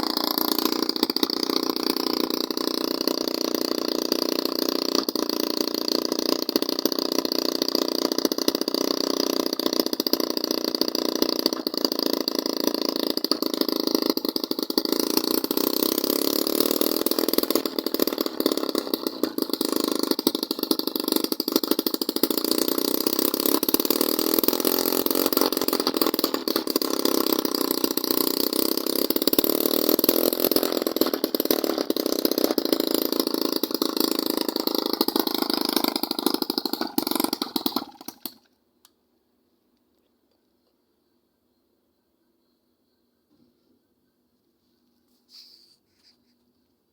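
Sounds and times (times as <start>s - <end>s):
two-stroke engine running: 0.0s - 38.6s.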